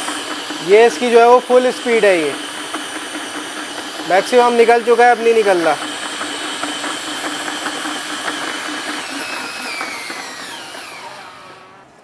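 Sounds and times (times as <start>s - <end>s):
drill running meat mincer: 0.0s - 12.0s.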